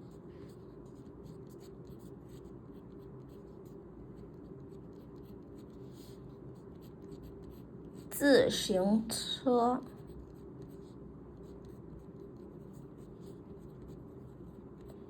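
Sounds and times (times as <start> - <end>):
pen scratching on paper: 0.0 - 8.3, 9.8 - 15.0.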